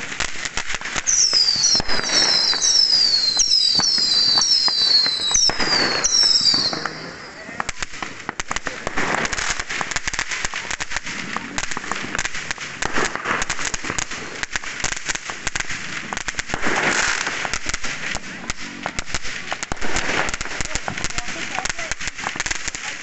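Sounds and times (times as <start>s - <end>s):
fireworks crackling bangs: 0.0s - 23.0s.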